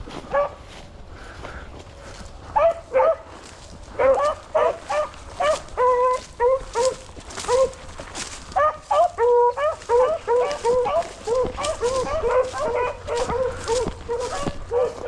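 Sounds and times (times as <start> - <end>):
hounds baying: 0.2 - 0.7, 2.1 - 15.0
hounds howling: 2.5 - 15.0.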